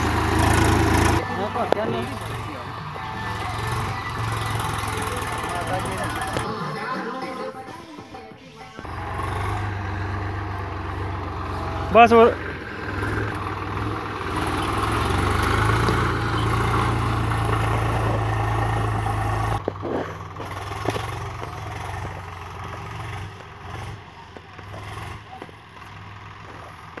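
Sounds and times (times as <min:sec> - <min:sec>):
tractor diesel engine running: 0:00.0 - 0:06.6, 0:08.3 - 0:27.0.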